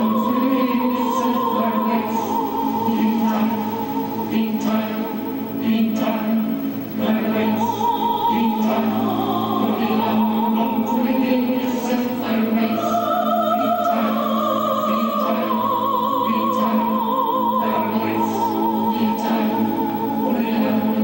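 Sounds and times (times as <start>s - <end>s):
low musical accompaniment: 0.0s - 21.0s
operatic singing: 0.0s - 21.0s.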